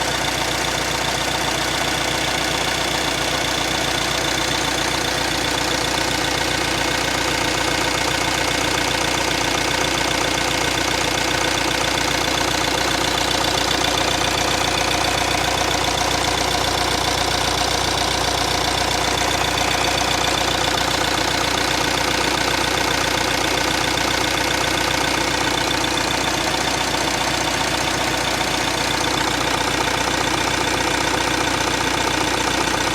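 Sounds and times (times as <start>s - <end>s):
diesel engine idling with knock: 0.0s - 32.9s.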